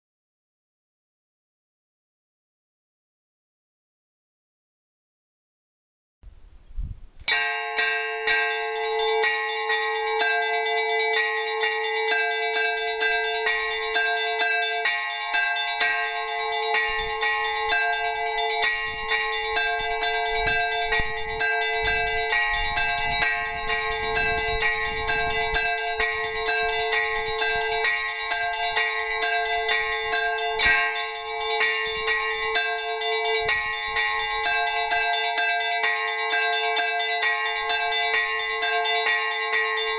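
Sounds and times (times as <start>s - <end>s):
bells ringing in a peal: 7.3s - 39.9s
sustained bell note: 7.3s - 39.9s.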